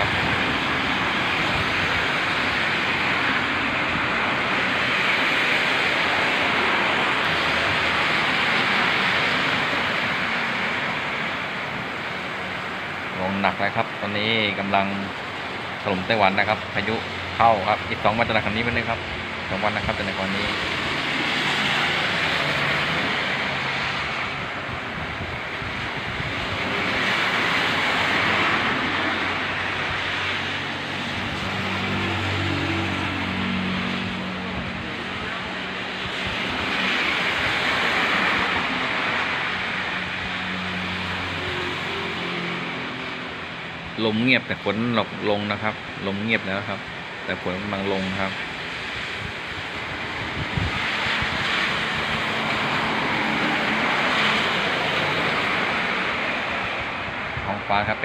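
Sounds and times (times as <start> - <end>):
heavy rain: 0.0 - 58.0
strong wind: 0.0 - 58.0.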